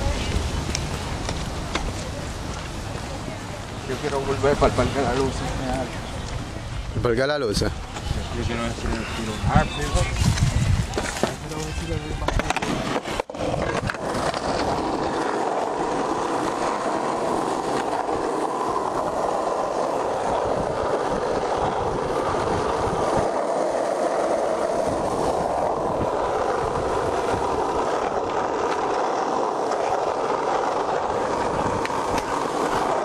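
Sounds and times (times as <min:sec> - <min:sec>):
skateboard wheels rolling on asphalt: 0:00.0 - 0:33.0.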